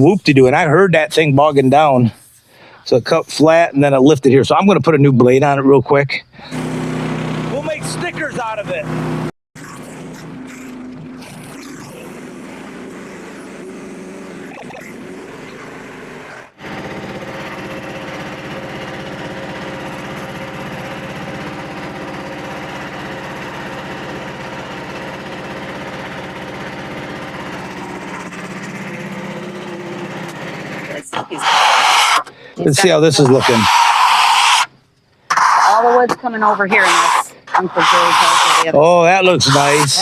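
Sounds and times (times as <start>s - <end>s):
band sawmill sawing log: 6.5s - 34.7s, 35.3s - 40.0s.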